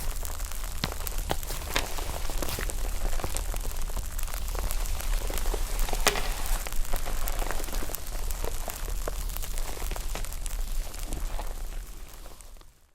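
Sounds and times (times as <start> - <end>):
slime crackling and popping: 0.0 - 12.9.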